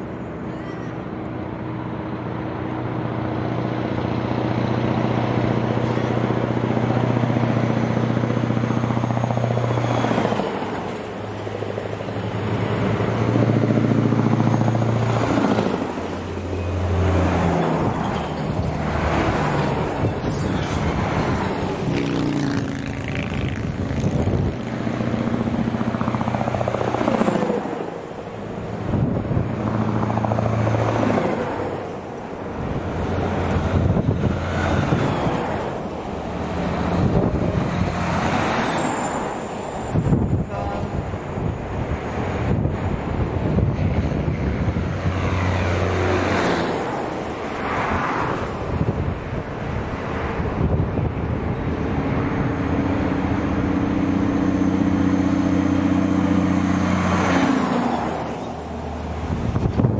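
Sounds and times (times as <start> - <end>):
diesel trucks driving past: 0.0 - 59.9.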